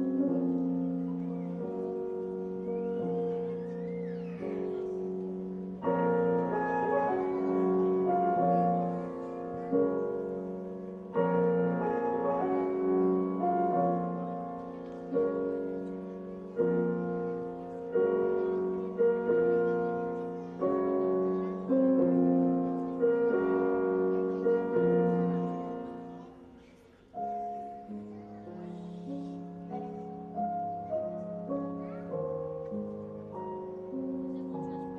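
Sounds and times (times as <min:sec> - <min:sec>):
slow solemn piano chords: 0:00.0 - 0:34.9.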